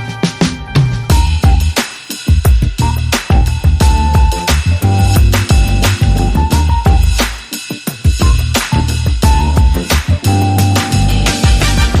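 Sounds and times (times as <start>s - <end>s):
drum beat: 0.0s - 12.0s.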